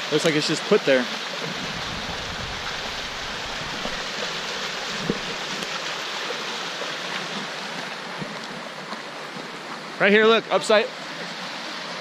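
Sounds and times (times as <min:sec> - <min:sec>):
river rushing over rocks: 0:00.1 - 0:12.0.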